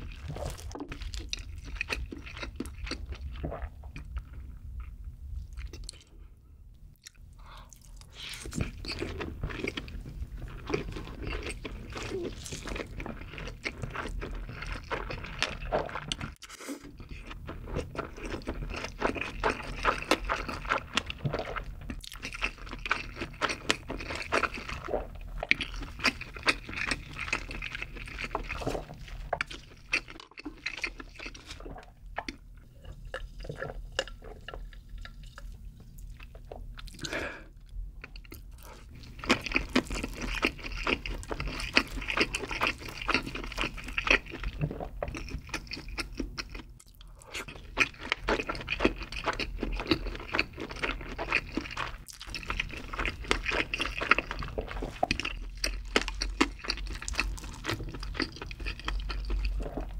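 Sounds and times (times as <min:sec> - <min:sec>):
chewing food: 0:00.0 - 0:06.2, 0:06.9 - 0:59.9.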